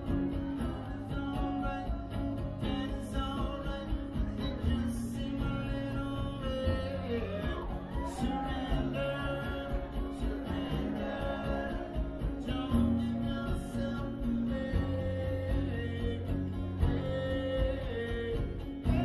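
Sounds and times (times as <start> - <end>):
man singing wordless vocal line: 0.0 - 19.0
strummed acoustic guitar: 0.0 - 19.0.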